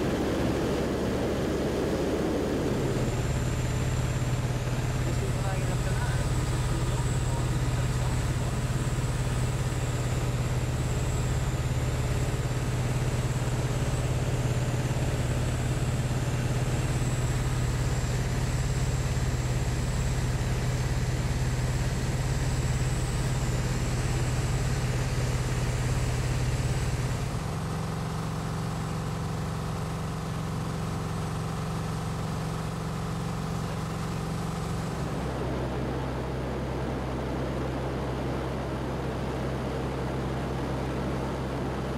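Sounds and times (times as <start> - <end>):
glider engine and propeller droning: 0.0 - 41.9.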